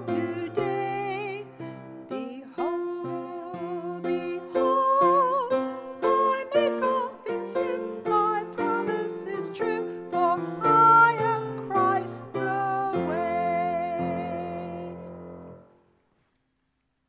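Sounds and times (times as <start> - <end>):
voices singing a hymn: 0.0 - 15.6
grand piano: 0.0 - 16.1.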